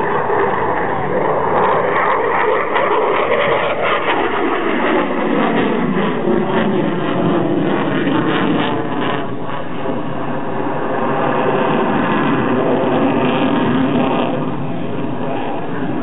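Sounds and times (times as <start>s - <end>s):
fighter jet engines roaring: 0.0s - 16.0s.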